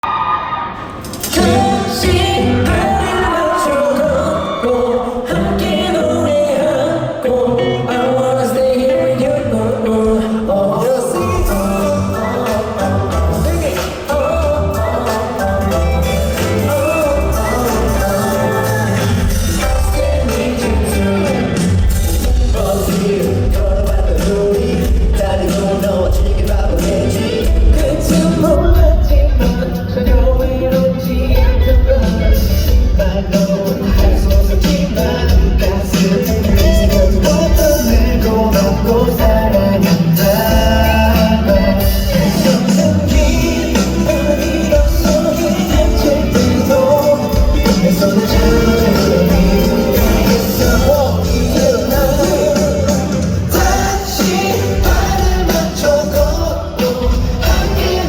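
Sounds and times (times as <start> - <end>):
pop song over sound system: 0.0 - 58.0
men singing over a band: 1.2 - 58.0.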